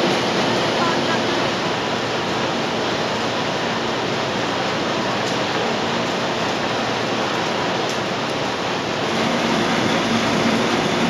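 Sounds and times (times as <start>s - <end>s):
machinery rushing noise: 0.0s - 11.0s.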